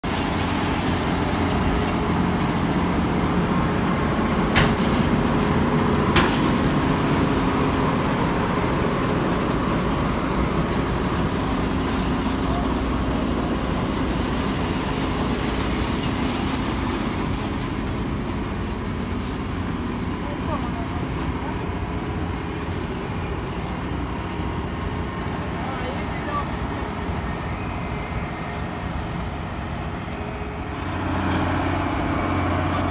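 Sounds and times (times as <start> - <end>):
combine harvester engine drone: 0.0 - 32.9.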